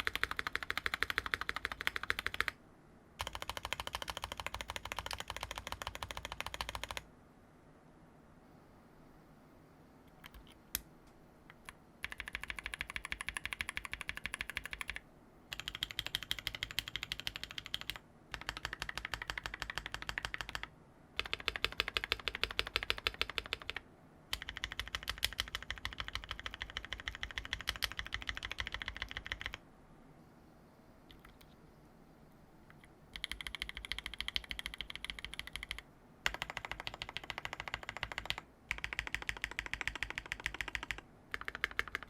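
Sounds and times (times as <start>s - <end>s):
mechanical keyboard typing: 0.0s - 2.6s, 3.2s - 7.1s, 10.1s - 10.8s, 11.5s - 29.6s, 31.1s - 31.6s, 32.7s - 42.0s.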